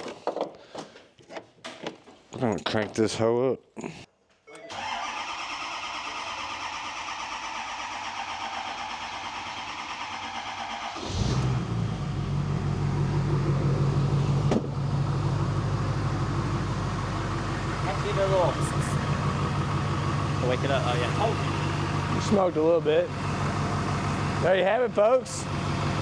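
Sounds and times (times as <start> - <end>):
diesel engine starter cranking: 4.6 - 26.0
diesel engine idling: 4.8 - 26.0.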